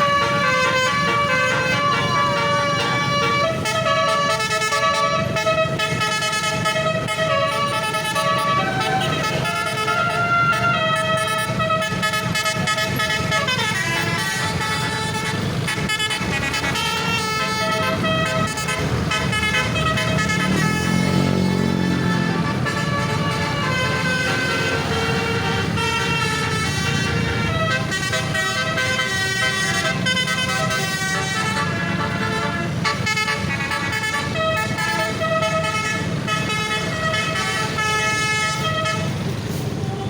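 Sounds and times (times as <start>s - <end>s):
multi-tone bus horn playing a tune: 0.0s - 40.0s.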